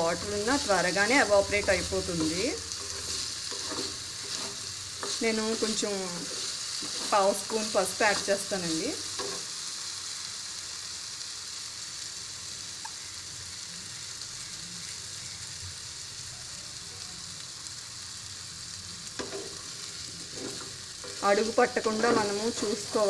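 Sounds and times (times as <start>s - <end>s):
yam frying in oil: 0.0s - 23.0s.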